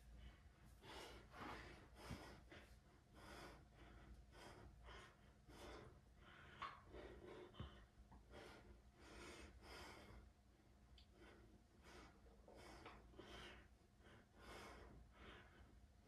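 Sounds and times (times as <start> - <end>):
man breathing heavily: 0.0 - 10.4, 11.0 - 16.0.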